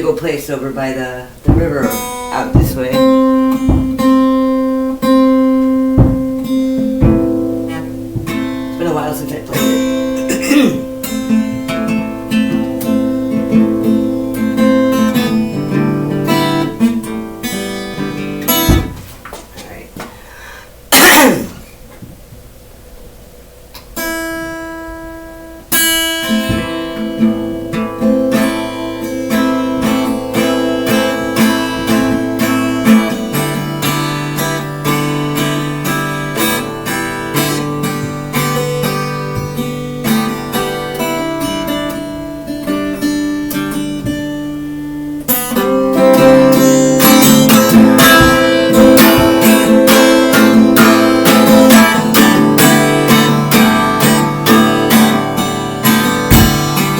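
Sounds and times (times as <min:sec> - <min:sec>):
acoustic guitar picking and strumming: 0:00.0 - 0:56.9.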